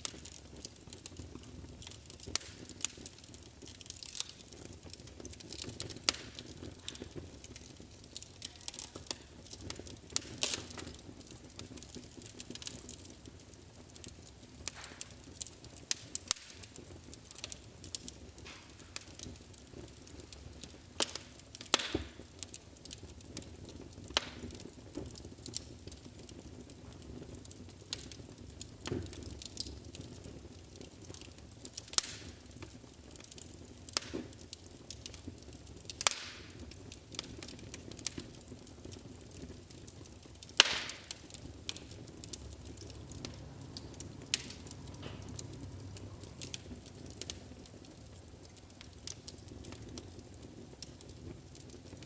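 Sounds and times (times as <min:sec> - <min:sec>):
low steady hiss: 0:00.0 - 0:52.0
wood fire crackling: 0:00.0 - 0:52.0.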